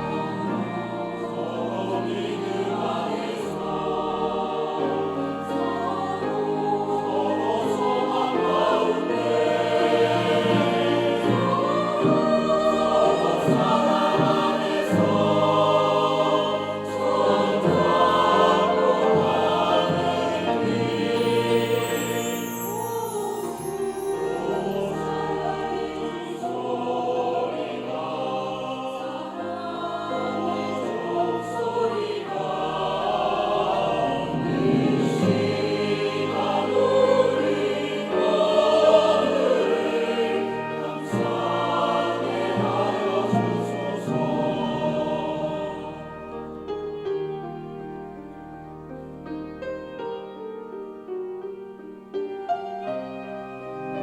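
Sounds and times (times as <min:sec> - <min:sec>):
church choir singing: 0:00.0 - 0:54.0.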